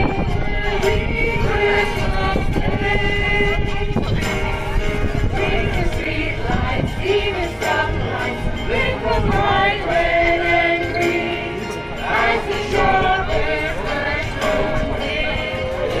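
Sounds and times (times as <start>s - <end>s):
group singing a carol: 0.0s - 16.0s.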